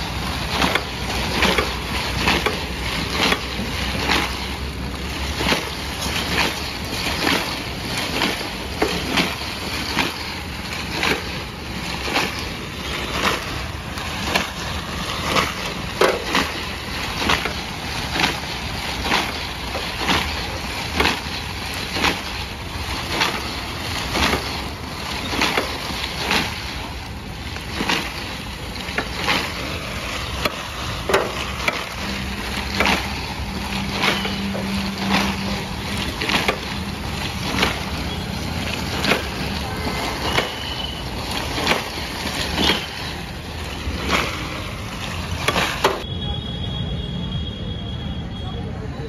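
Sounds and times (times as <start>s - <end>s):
ice cream scraping off roller drum: 0.0s - 46.1s.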